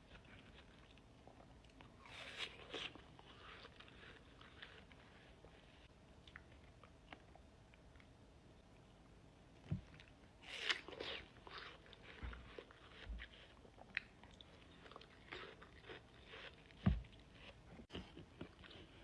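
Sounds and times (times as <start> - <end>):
crunching and wet chewing: 0.0 - 8.1, 9.8 - 19.0.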